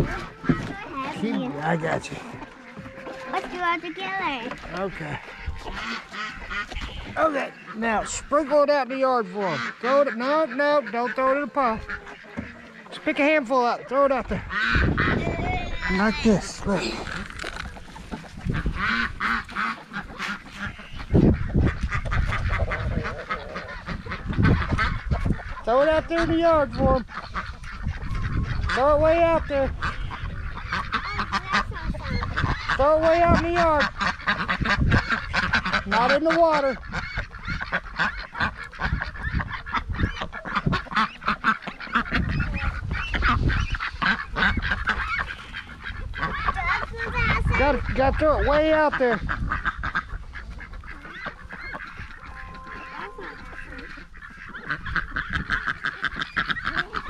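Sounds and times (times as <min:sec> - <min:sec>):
poultry calling: 0:00.0 - 0:57.0.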